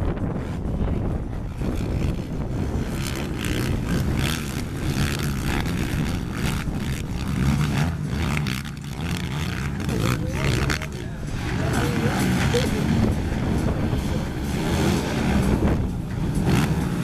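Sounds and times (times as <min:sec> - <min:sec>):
racing atv engines: 0:00.0 - 0:17.0.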